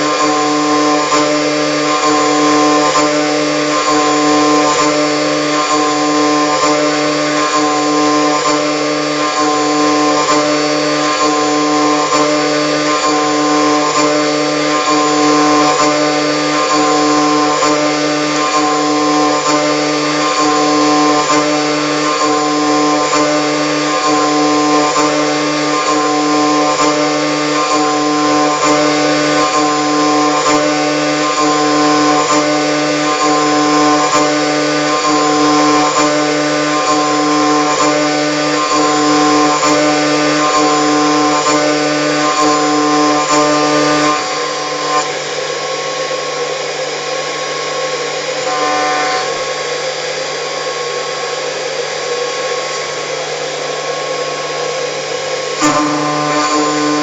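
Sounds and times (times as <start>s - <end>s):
milling machine whine: 0.0s - 57.0s.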